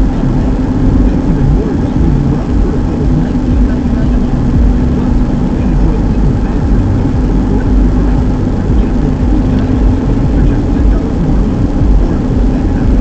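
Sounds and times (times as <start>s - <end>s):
car engine and road rumble: 0.0s - 13.0s
constant hum: 0.0s - 13.0s.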